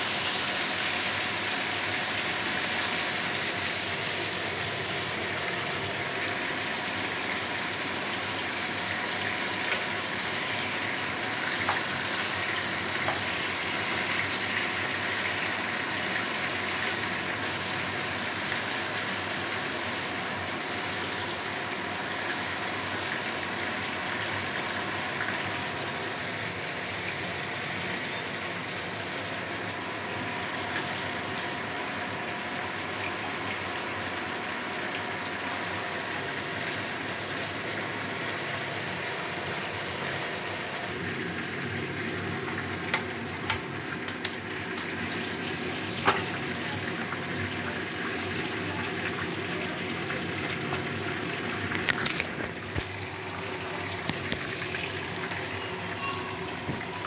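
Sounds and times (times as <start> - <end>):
chicken frying in hot oil: 0.0 - 57.0.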